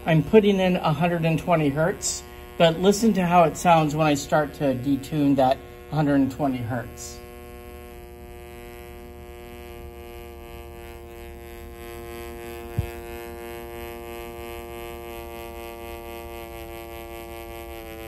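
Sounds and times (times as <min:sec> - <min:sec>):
buzzy test tone with beating: 0:00.0 - 0:18.0.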